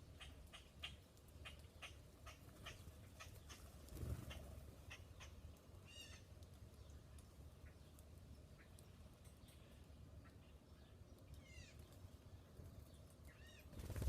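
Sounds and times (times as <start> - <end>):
low steady background rumble: 0.0 - 14.0.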